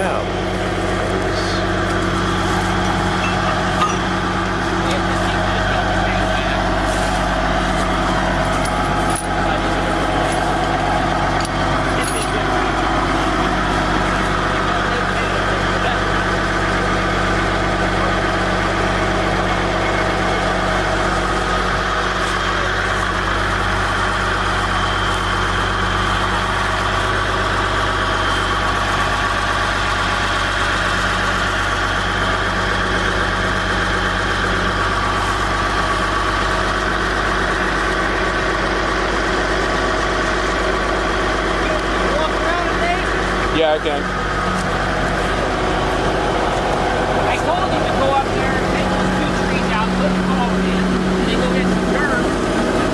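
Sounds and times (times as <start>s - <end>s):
heavy vehicle engine running: 0.0s - 52.9s.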